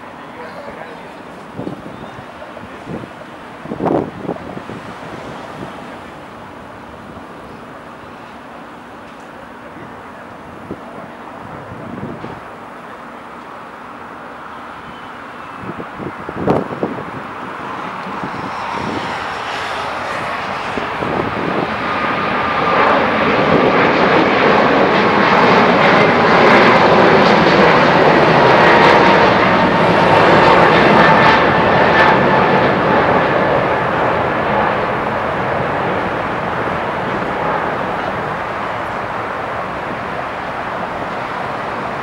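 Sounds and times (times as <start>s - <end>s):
faint jet whine: 0.0s - 42.0s
jet engines roaring at takeoff: 0.0s - 42.0s.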